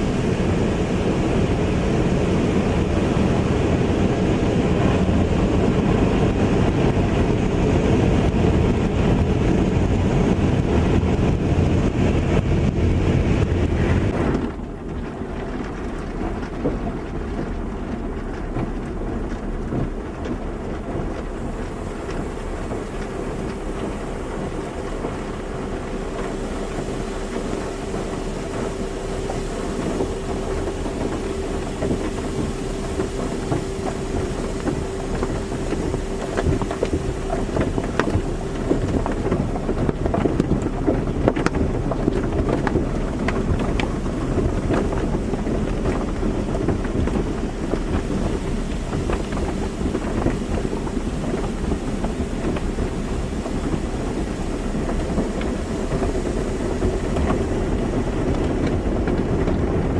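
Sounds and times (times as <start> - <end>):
mechanical hum: 0.0 - 59.9
spraying water and machinery: 0.0 - 59.9.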